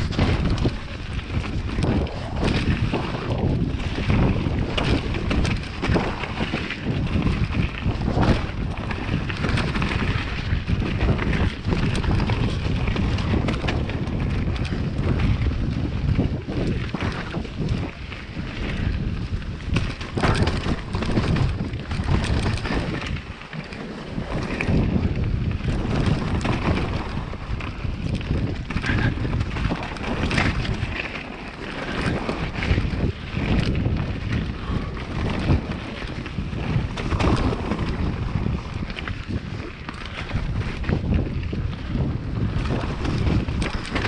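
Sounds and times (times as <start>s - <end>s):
bike knocks and rattles: 0.0s - 44.0s
tyres rumbling on dirt: 0.0s - 44.0s
wind buffeting microphone: 0.0s - 44.0s.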